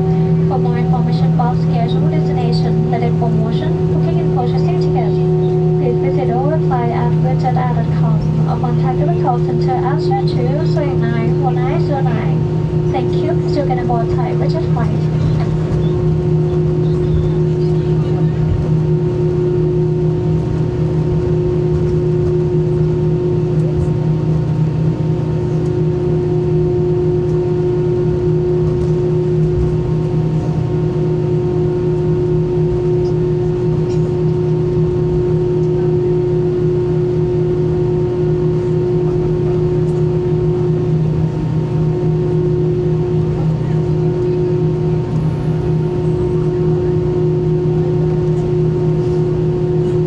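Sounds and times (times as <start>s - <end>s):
aircraft cabin drone: 0.0s - 50.0s.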